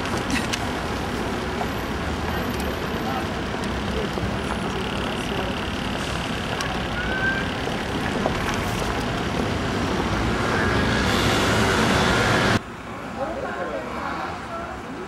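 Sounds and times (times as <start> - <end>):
passing cars rumbling: 0.0 - 14.9.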